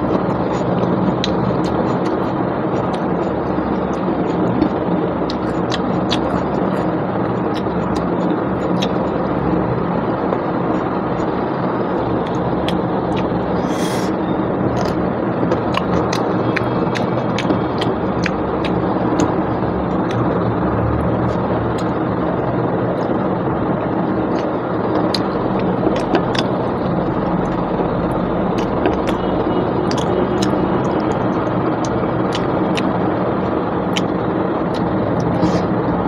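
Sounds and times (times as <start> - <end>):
wet chewing and lip-smacking: 0.0 - 22.3, 24.2 - 35.8
loud background rumble: 0.0 - 36.0.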